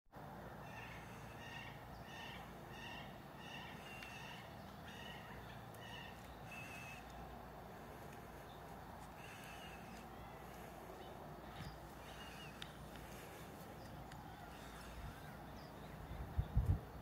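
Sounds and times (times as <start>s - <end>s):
faint low outdoor rumble: 0.2s - 17.0s
bird calling: 0.6s - 16.8s.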